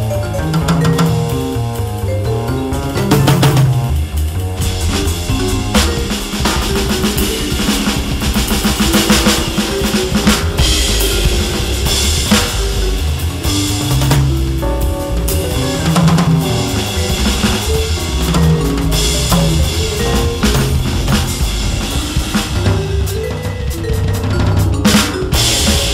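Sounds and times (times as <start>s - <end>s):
electronic drum kit playing jazz: 0.0s - 25.9s
walking bass line: 0.0s - 25.9s.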